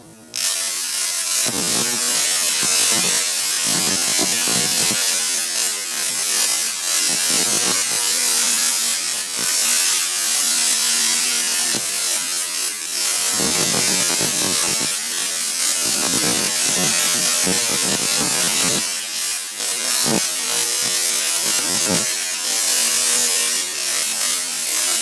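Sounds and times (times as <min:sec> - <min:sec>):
tesla coil buzzing crackle: 0:00.0 - 0:25.0.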